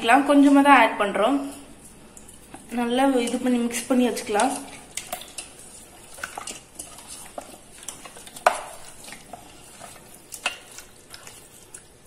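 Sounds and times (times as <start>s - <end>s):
wet mixing in a bowl: 0.0s - 12.0s.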